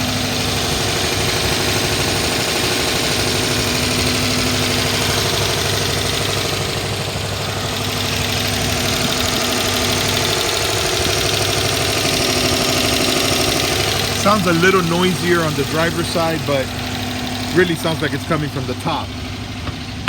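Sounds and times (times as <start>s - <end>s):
car engine idling rough: 0.0s - 20.0s
engine tapping and clacking: 0.0s - 20.0s.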